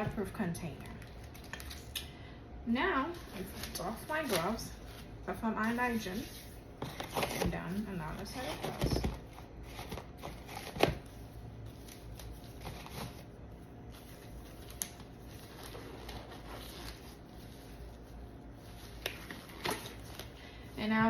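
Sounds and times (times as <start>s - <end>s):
rustling disposable gloves: 3.0s - 21.0s.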